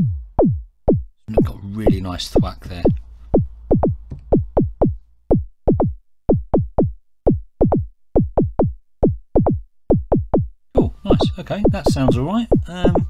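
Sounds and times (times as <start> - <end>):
synth bass drum thwacks: 0.0 - 13.0.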